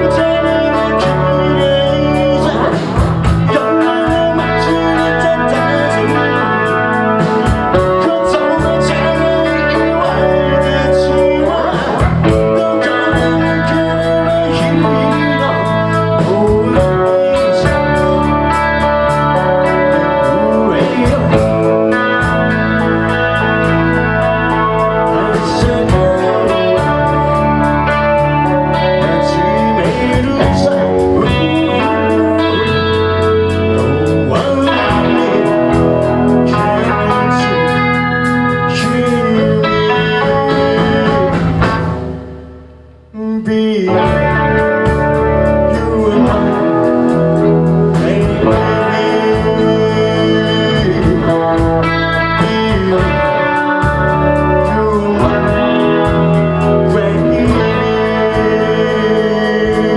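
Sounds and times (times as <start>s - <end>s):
bass notes: 0.0s - 59.9s
distorted electric guitar chords: 0.0s - 59.9s
live rock band playing: 0.0s - 59.9s.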